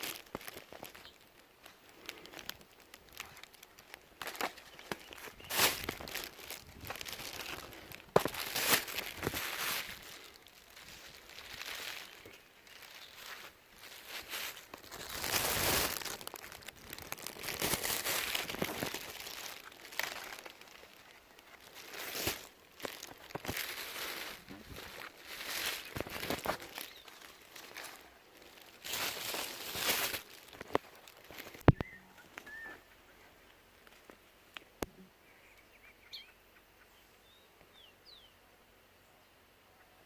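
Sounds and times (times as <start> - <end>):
rustling and crunching dry material: 0.0 - 34.9.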